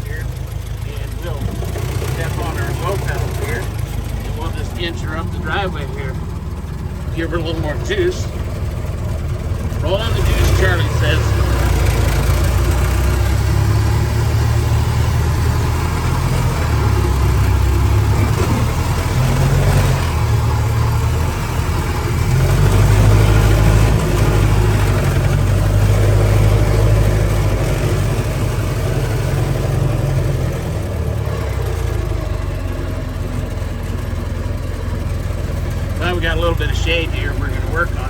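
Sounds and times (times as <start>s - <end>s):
car engine running under load: 0.0s - 38.0s.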